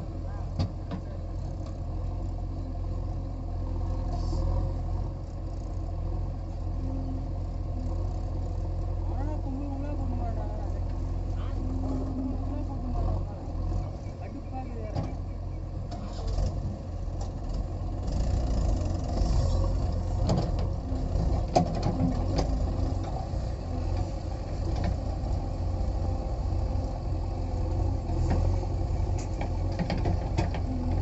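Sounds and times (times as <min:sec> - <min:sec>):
diesel engines running: 0:00.0 - 0:31.0.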